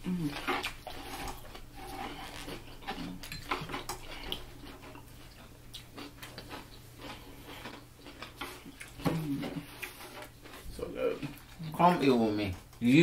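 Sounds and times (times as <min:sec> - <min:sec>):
chewing: 0:00.0 - 0:12.8.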